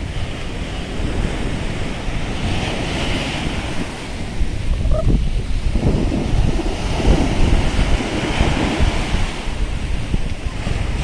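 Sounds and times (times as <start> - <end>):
waves breaking on shore: 0.0 - 11.0
wind buffeting microphone: 0.0 - 11.0.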